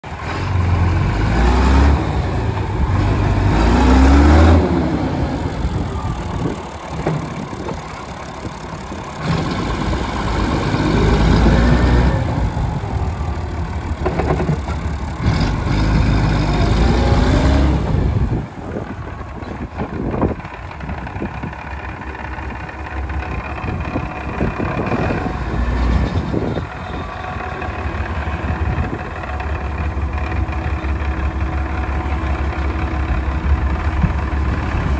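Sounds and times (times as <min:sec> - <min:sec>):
tractor diesel engine: 0:00.0 - 0:34.9.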